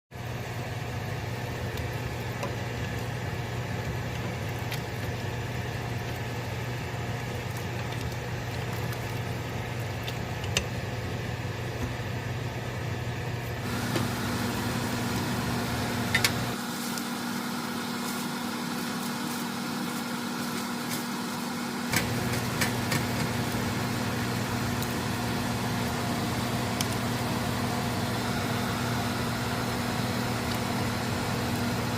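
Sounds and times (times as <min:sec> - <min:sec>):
low mechanical hum: 0:00.2 - 0:31.9.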